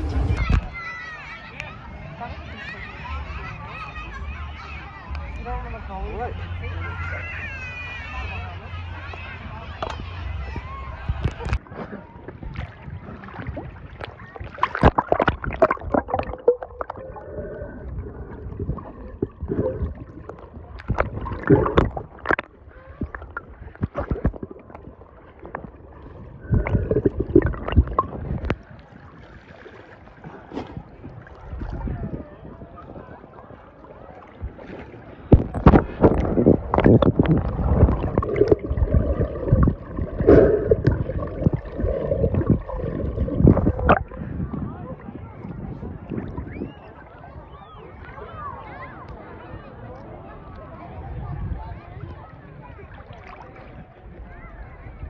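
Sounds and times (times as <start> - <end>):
water splashing and sloshing: 0.0 - 47.4.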